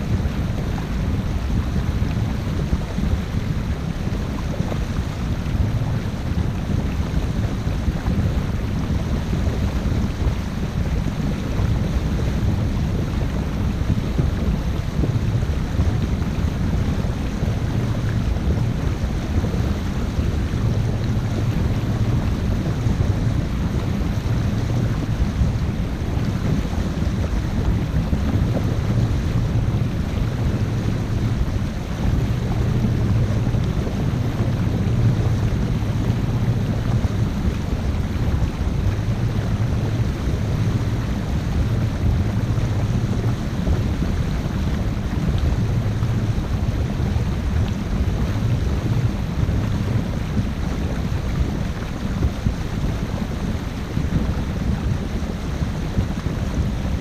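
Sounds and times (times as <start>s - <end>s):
boat engine drone: 0.0s - 55.9s
wind buffeting microphone: 0.0s - 57.0s.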